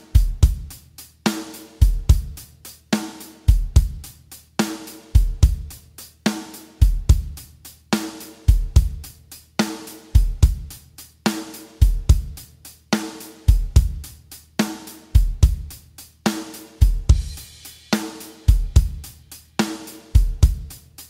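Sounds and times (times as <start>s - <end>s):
drum kit playing a rhythm: 0.0s - 21.0s.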